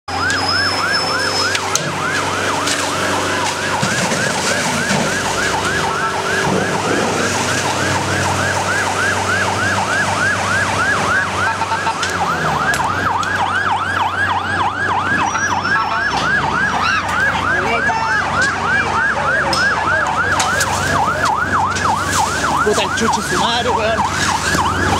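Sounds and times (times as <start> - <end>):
fast yelp siren: 0.1 - 24.9.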